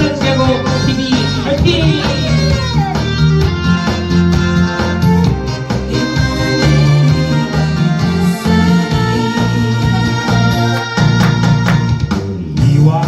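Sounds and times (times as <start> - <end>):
guitar melody with band: 0.0 - 12.1.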